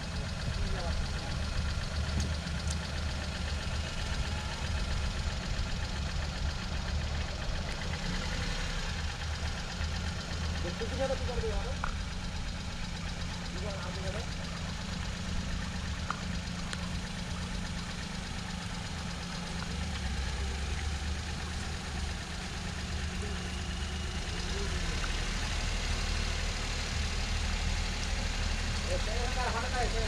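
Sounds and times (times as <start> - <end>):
car engine running at low revs: 0.0 - 30.0.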